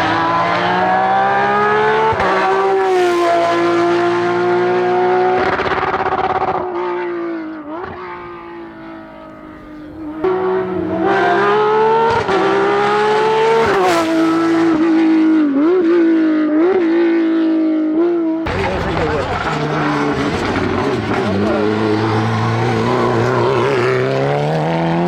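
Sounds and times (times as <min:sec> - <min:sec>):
racing car engines revving: 0:00.0 - 0:25.0.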